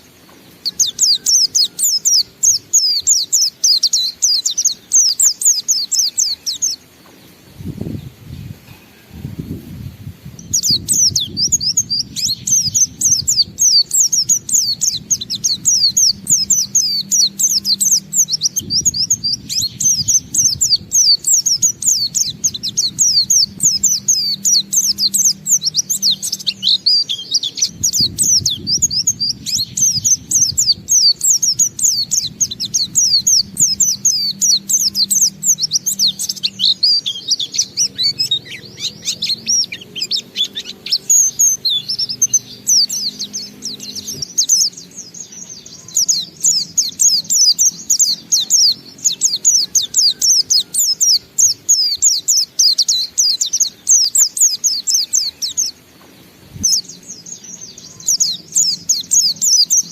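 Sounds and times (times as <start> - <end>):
bird twittering rapidly: 0.0 - 59.9.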